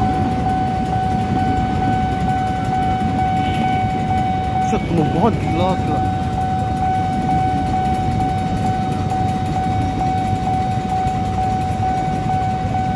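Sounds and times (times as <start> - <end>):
electric train rumbling: 0.0 - 12.9
level crossing alarm tone: 0.0 - 12.9
motorcycles idling: 0.0 - 12.9.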